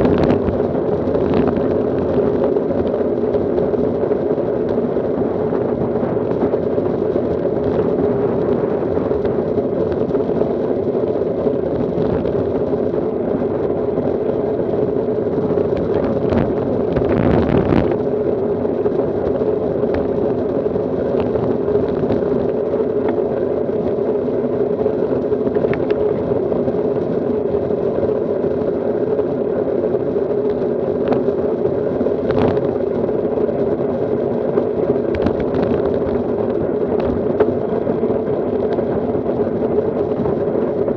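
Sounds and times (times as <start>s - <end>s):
bicycle road noise: 0.0s - 40.9s
wind noise: 0.0s - 40.9s.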